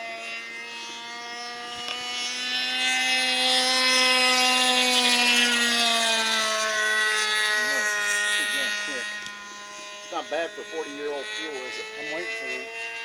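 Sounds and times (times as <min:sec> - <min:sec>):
model airplane engine buzzing: 0:00.0 - 0:13.0.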